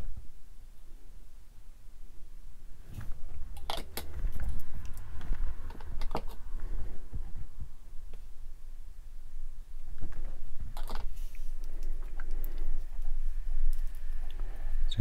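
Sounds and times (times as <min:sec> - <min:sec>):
low rumble of handling noise: 0:00.0 - 0:15.0.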